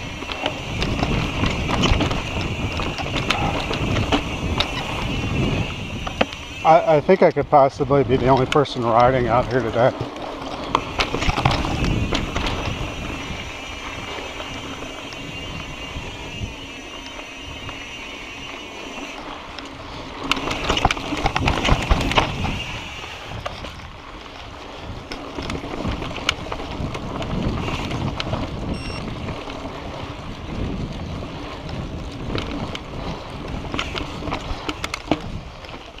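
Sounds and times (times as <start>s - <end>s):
wind on microphone: 0.0s - 9.9s, 10.7s - 19.2s, 20.5s - 35.8s
bike rattling over bumps: 0.0s - 36.0s
bike tyres rolling over stones: 0.0s - 36.0s.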